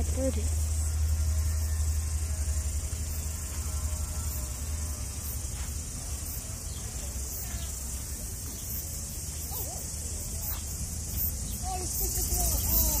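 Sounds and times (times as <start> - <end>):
insects hissing: 0.0 - 13.0.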